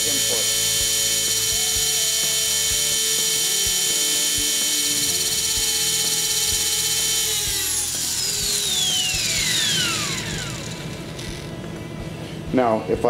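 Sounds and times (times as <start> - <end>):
electric motor whining and spooling down: 0.0 - 11.6.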